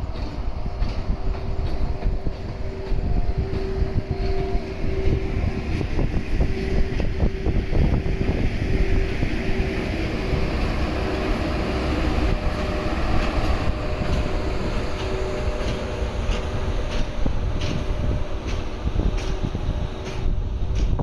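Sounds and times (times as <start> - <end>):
locomotive rumble: 0.0 - 21.0
held tone: 0.6 - 18.4.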